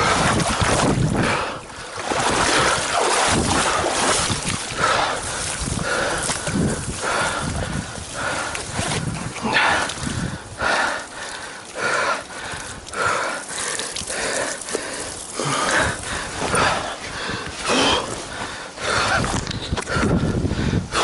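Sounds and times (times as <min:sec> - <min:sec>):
person breathing heavily: 0:01.1 - 0:02.0, 0:04.7 - 0:21.0.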